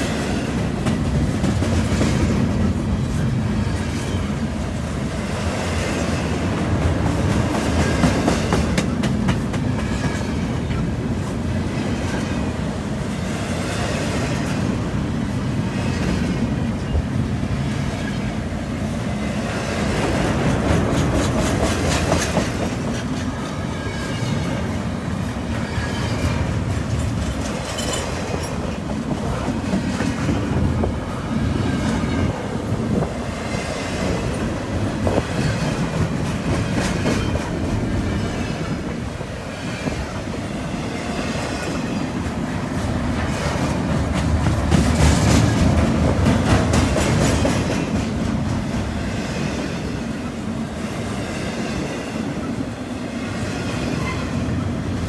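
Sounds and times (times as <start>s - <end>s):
clickety-clack of train wheels: 0.0s - 55.0s
rumble of train wheels on rails: 0.0s - 55.0s.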